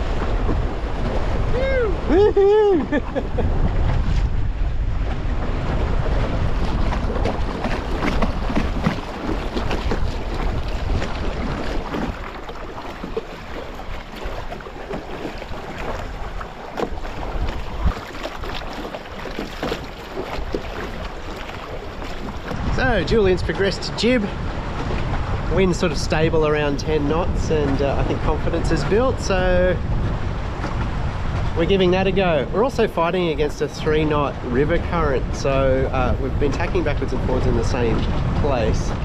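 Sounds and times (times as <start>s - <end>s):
water splashing along hull: 0.0s - 39.0s
wind buffeting microphone: 0.0s - 39.0s.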